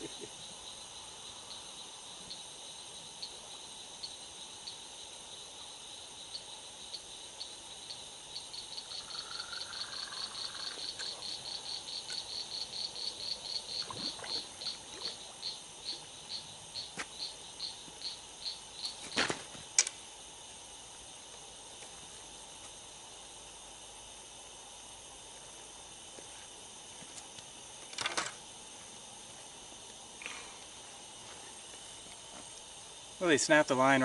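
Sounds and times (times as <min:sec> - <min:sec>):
night insects chirping: 0:00.0 - 0:34.0.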